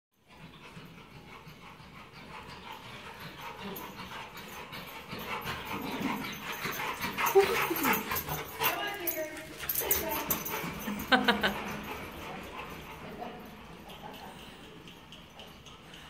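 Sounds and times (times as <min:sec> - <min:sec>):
dogs panting: 0:00.2 - 0:16.0.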